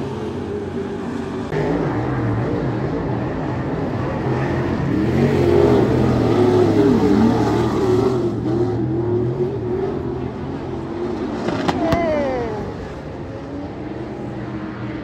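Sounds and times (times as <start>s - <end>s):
stock car engines racing: 0.0s - 15.0s.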